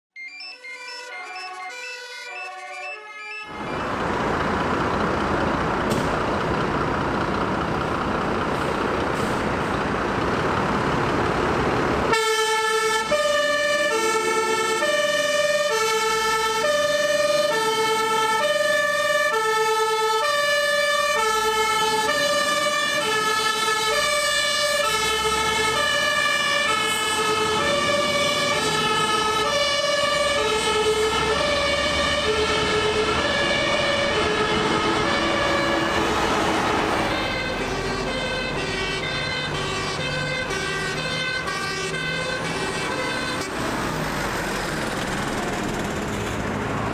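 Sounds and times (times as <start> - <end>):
fire engine two-tone siren: 0.2 - 6.1, 12.1 - 45.5.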